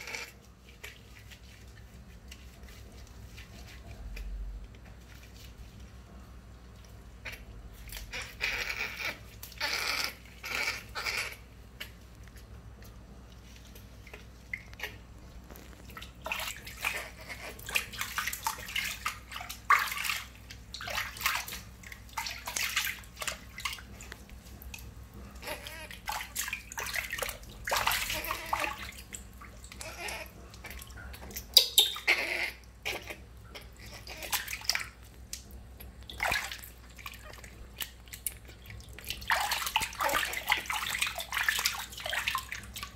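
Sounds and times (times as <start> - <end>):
water splashing in a basin: 0.0 - 42.9.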